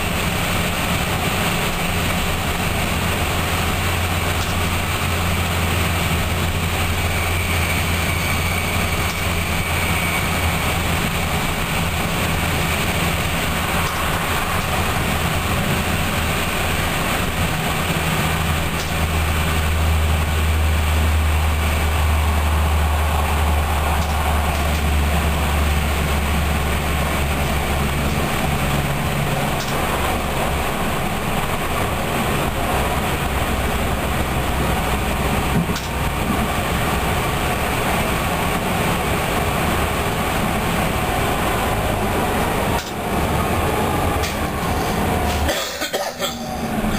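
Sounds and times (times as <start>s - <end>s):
train engine drone: 0.0s - 46.9s
train rolling noise: 0.0s - 46.9s.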